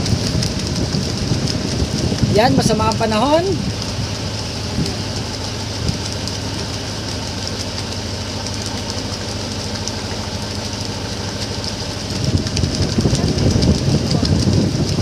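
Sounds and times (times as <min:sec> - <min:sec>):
boat engine chugging: 0:00.0 - 0:15.0.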